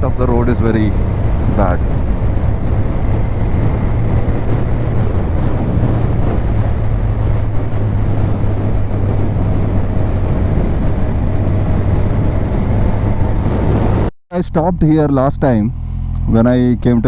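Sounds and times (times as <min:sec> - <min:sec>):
motorcycle engine cruising: 0:00.0 - 0:14.1, 0:14.9 - 0:17.0
wind rushing over microphone: 0:00.0 - 0:14.1.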